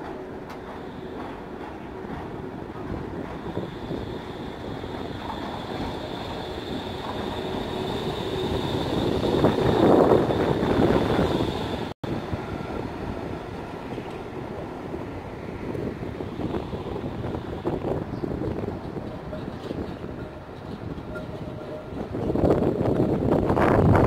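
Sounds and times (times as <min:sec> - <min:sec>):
steady high tram whine: 0:00.0 - 0:24.0
tram rumble: 0:00.0 - 0:24.0.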